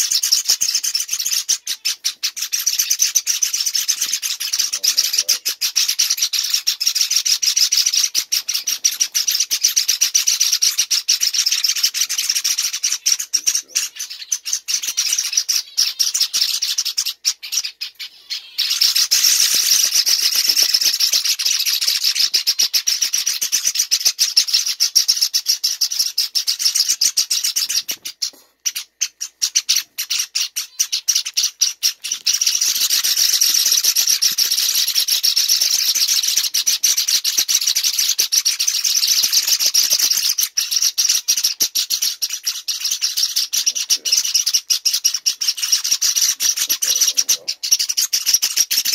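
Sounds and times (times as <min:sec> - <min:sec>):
chicks begging calls: 0:00.0 - 0:48.9.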